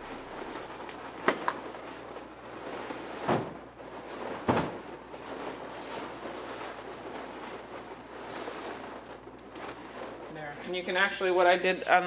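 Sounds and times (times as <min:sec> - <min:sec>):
balloons rubbing together: 0:00.0 - 0:11.2
steady low hum: 0:00.0 - 0:12.0.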